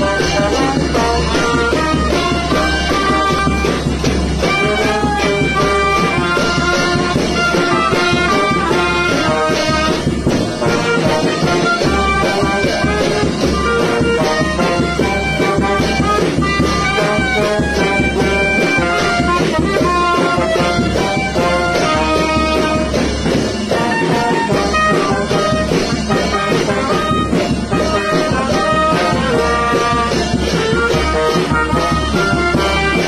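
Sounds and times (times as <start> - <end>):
clarinet: 0.0 - 33.0
hand cymbals clashing: 0.0 - 33.0
trombone: 0.0 - 33.0
trumpet: 0.0 - 33.0.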